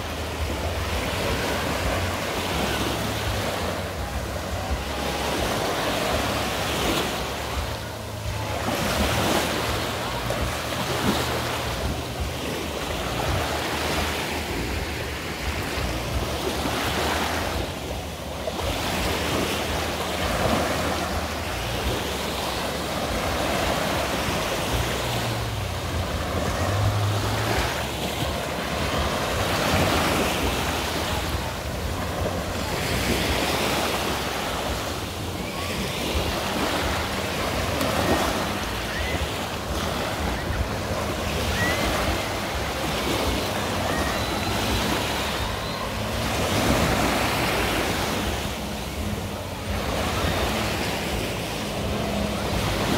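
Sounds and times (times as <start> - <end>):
small waves washing on shore: 0.0 - 52.9.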